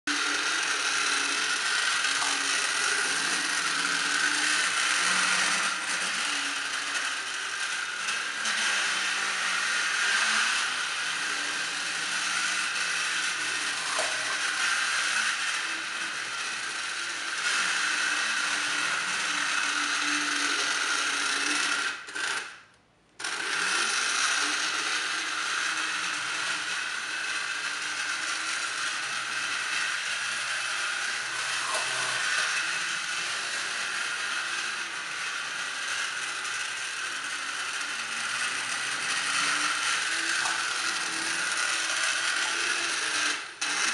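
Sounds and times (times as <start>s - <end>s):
electric motor whirring: 0.1s - 22.6s, 23.2s - 43.9s.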